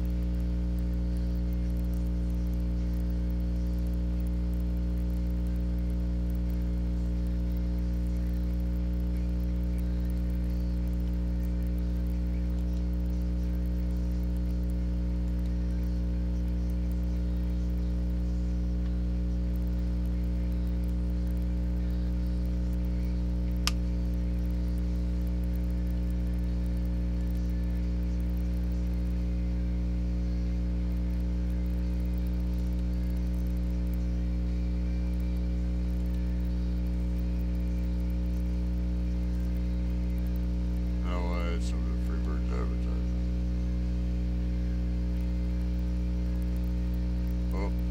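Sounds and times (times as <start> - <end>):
electrical mains hum: 0.0 - 47.9.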